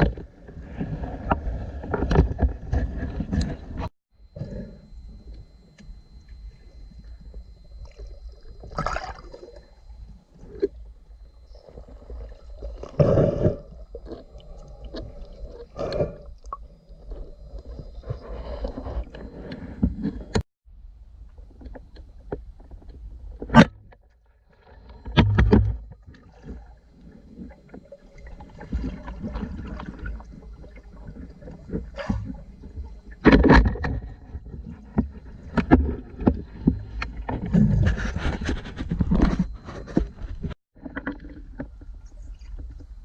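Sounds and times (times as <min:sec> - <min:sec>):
water splashing and sloshing: 0:05.3 - 0:20.4, 0:22.8 - 0:43.0.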